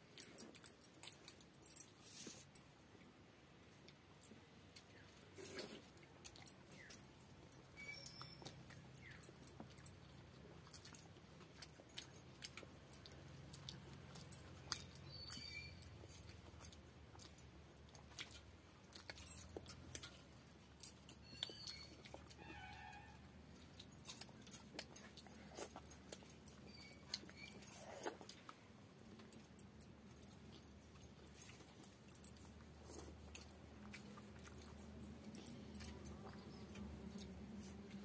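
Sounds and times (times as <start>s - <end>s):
light clink of bangles: 0.0s - 3.2s, 3.8s - 38.0s
chewing and lip smacks: 4.7s - 38.0s.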